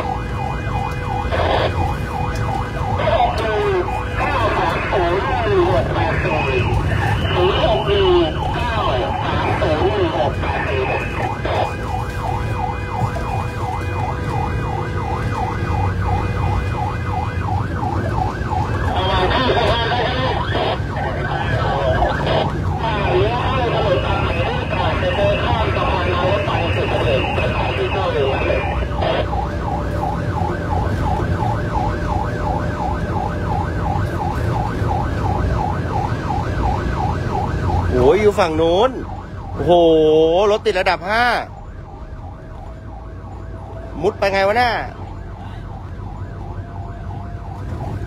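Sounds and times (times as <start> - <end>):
electronic siren wailing: 0.0 - 48.0
engine and road rumble: 0.0 - 48.0.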